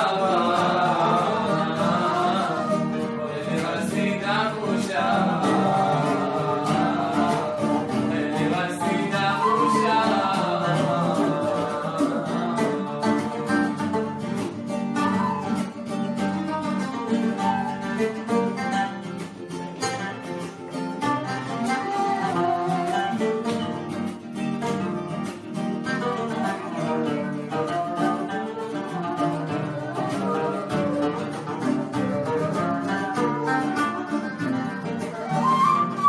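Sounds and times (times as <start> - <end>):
plucked string instruments melody: 0.0 - 36.0.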